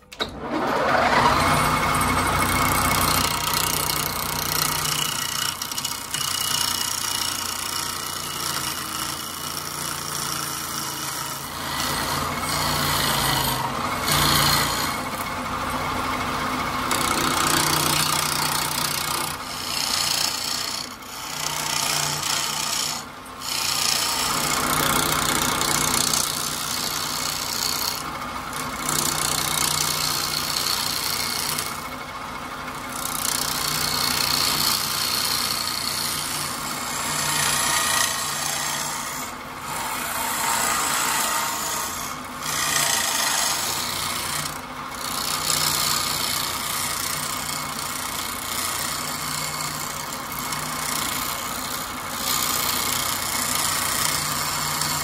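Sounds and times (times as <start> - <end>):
lathe tool scraping wood: 0.1 - 55.0.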